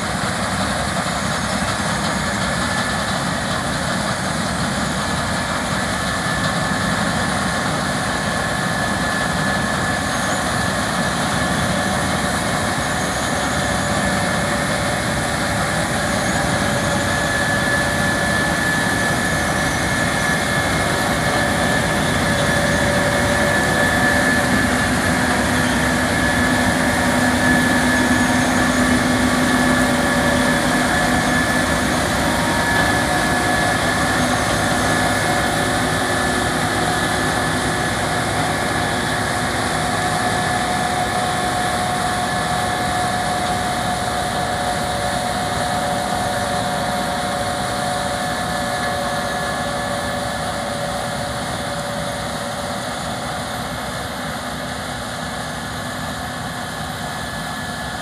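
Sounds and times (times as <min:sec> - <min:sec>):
combine harvester drone: 0:00.0 - 0:58.0
high whine: 0:00.0 - 0:58.0.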